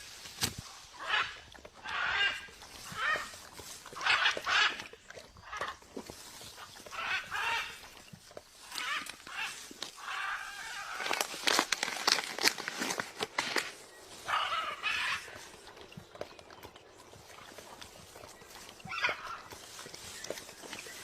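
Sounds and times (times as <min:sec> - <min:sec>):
animal calls: 0:00.9 - 0:11.6, 0:14.0 - 0:21.0.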